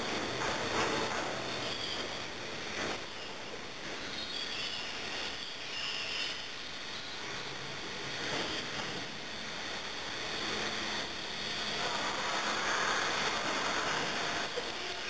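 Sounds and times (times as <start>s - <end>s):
coal unloading rushing noise: 0.0s - 4.4s, 7.4s - 15.0s.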